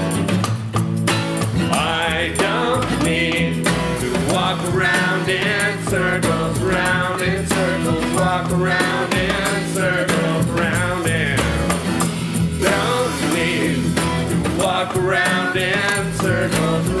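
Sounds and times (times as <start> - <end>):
acoustic guitar: 0.0 - 17.0
ticking cymbal beat: 0.0 - 17.0
upright bass: 0.0 - 17.0
person singing: 1.7 - 11.8, 12.6 - 17.0.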